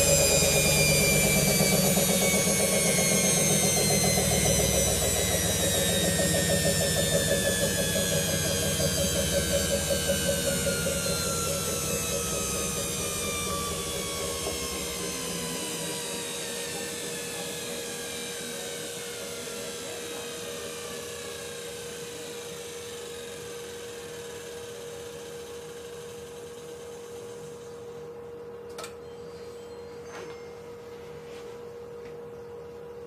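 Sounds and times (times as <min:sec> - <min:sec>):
steady hum: 0:00.0 - 0:33.0
washing machine drum whine: 0:00.0 - 0:33.0.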